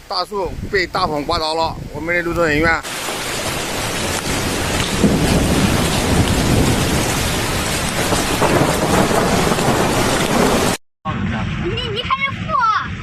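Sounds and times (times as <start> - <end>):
rain: 0.0 - 13.0
strong wind: 0.0 - 13.0.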